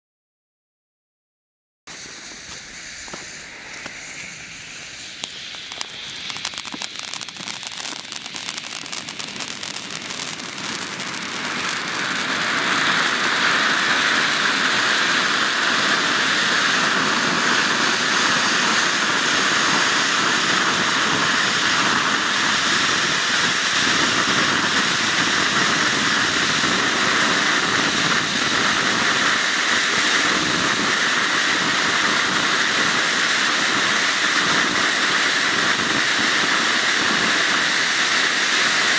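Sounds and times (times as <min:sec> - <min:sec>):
ground fountain fireworks hissing: 0:01.9 - 0:38.9.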